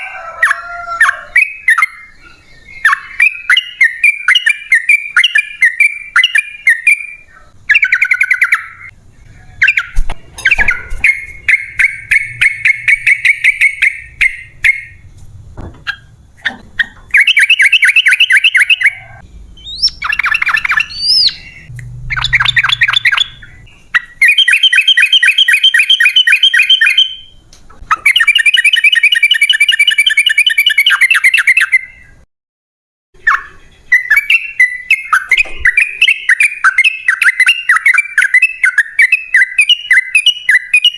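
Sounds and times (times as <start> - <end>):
bird chattering song: 0.4 - 15.0, 15.9 - 32.2, 33.2 - 40.9.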